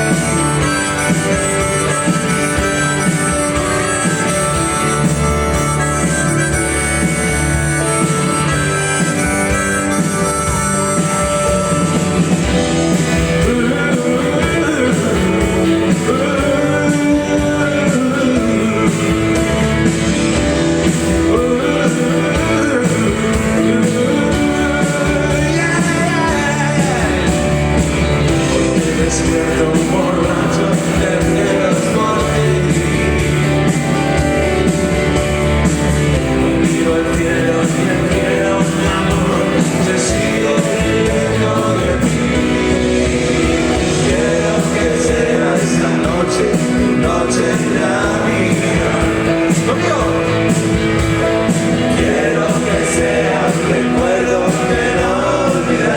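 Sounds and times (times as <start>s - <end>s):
electric guitar: 0.0s - 55.9s
live rock band playing: 0.0s - 55.9s.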